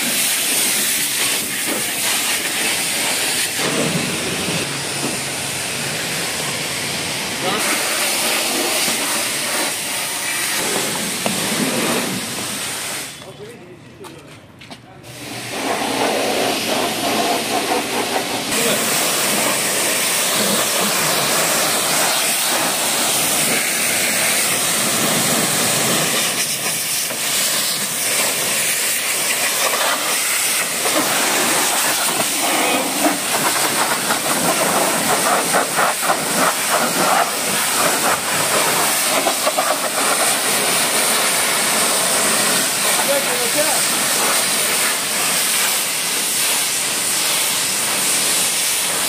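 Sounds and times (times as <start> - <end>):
pressure washer spraying water: 0.0 - 13.3, 15.0 - 49.0.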